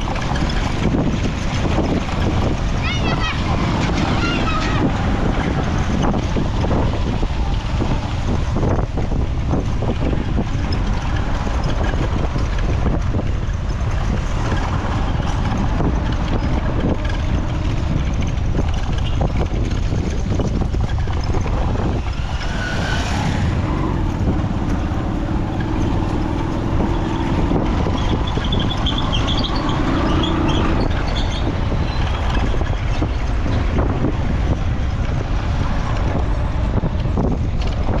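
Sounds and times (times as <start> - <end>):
road traffic rumble: 0.0 - 38.0
vehicle engine passing: 0.0 - 38.0
wind buffeting microphone: 0.0 - 38.0.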